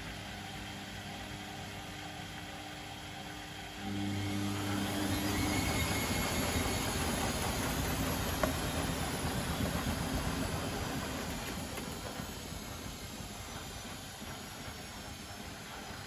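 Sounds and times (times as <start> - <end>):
pump humming: 0.0 - 16.0
washing machine drum whirring: 0.0 - 16.0.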